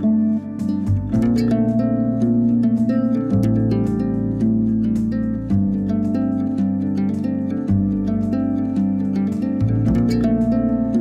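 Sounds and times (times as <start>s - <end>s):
held bass notes: 0.0s - 11.0s
plucked-string tune: 0.0s - 11.0s.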